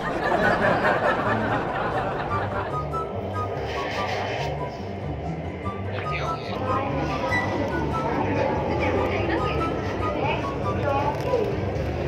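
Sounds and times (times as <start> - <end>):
metro train carriage running: 0.0 - 12.0.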